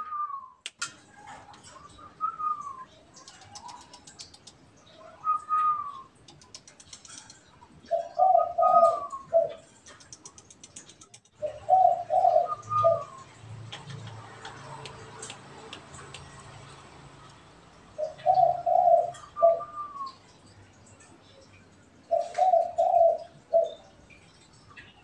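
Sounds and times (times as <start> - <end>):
doves cooing: 1.1 - 17.1, 17.9 - 20.4, 22.0 - 24.1.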